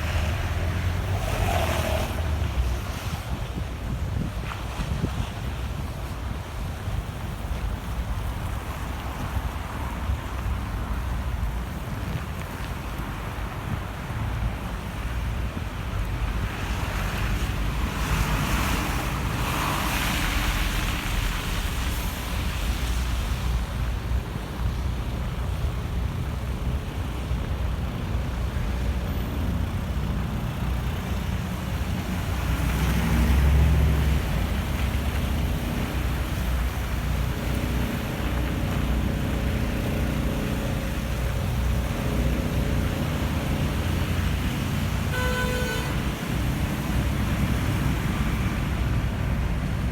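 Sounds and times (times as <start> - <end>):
traffic on slushy streets: 0.0 - 49.9
wind buffeting microphone: 0.0 - 49.9.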